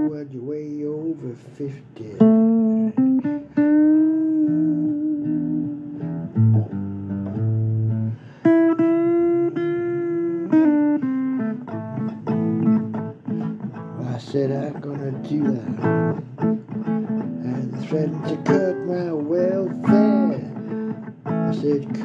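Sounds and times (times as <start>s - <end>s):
blues guitar plucked notes: 0.0s - 22.0s.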